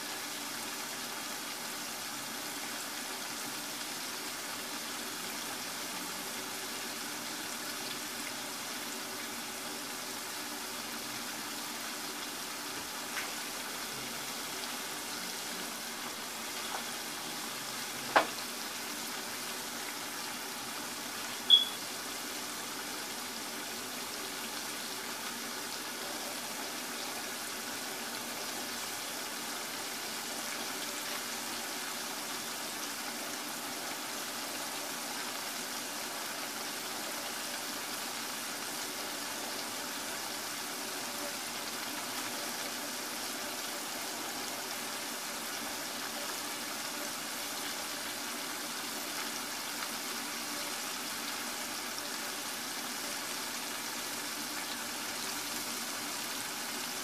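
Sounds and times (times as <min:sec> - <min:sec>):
oil sizzling and bubbling: 0:00.0 - 0:57.0.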